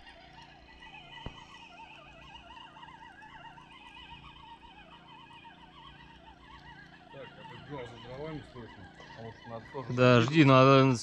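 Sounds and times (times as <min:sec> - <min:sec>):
chorus of animal calls: 0:00.0 - 0:11.0.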